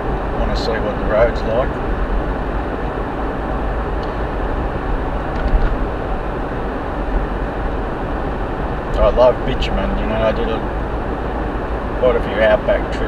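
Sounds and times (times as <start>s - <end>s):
car engine cruising: 0.0s - 13.0s
deep rumble: 0.0s - 13.0s
tyres rolling on road: 0.0s - 13.0s.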